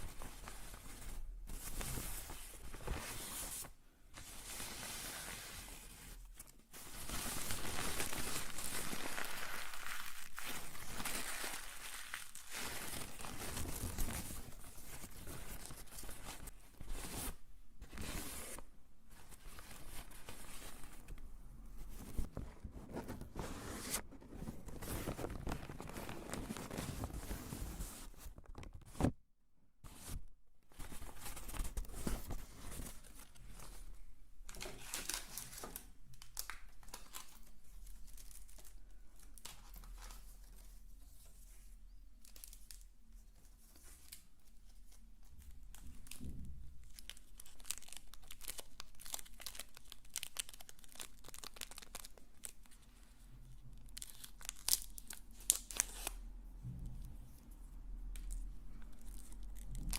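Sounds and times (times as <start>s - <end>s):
crinkly material crackling: 0.0s - 29.2s, 29.9s - 59.9s.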